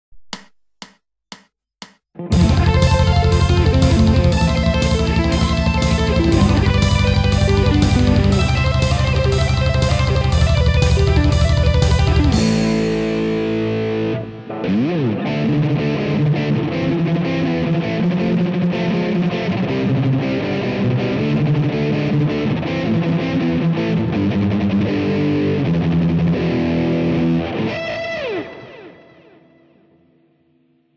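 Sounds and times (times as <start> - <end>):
distorted electric guitar runs: 2.3 - 27.6.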